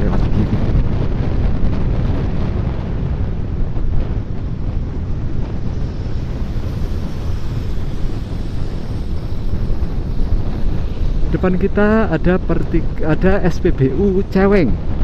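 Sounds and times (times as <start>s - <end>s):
low road noise rumble: 0.0s - 15.0s
wind buffeting microphone: 0.0s - 15.0s.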